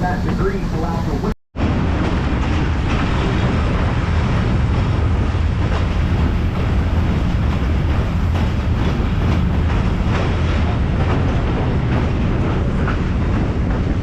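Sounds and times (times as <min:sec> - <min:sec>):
rail joint clicks: 0:00.0 - 0:14.0
train wheels rumbling on rails: 0:00.0 - 0:14.0.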